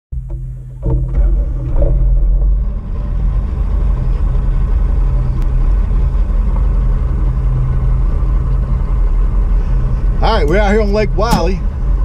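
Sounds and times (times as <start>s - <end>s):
boat motor idling: 0.1s - 12.0s.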